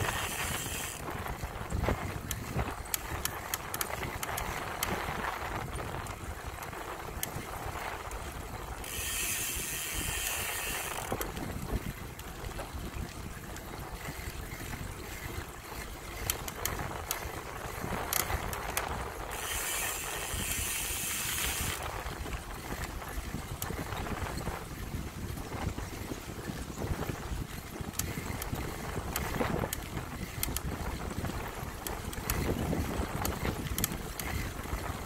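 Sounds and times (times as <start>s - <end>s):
bicycle freewheel ticking: 0.0s - 25.0s, 26.7s - 35.0s
small knocks from bicycle: 0.0s - 35.0s
wind rumble on microphone: 0.0s - 35.0s.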